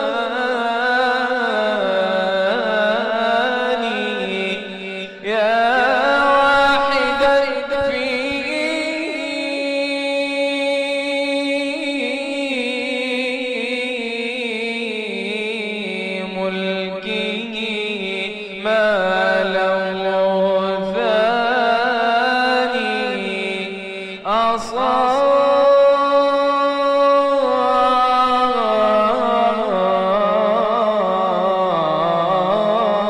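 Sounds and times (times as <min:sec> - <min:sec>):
person chanting: 0:00.0 - 0:33.0.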